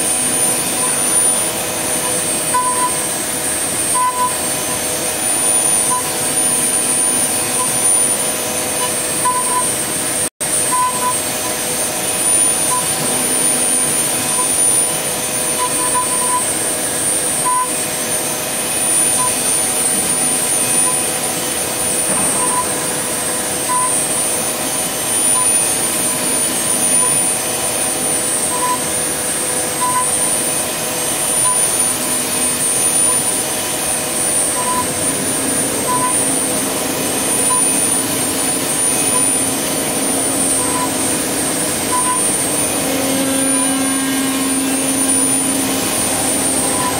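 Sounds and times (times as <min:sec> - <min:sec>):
cutter working wood: 0:00.0 - 0:46.9
router spindle high whine: 0:00.0 - 0:46.9.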